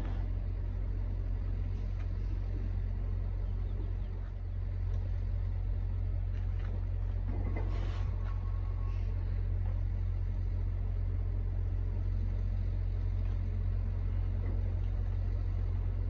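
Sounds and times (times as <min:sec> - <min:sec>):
semi truck engine rumbling: 0:00.0 - 0:16.0.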